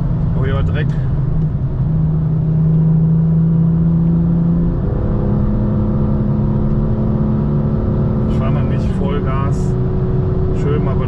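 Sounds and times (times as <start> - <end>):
car engine running: 0.0 - 11.0
road rumble: 0.0 - 11.0.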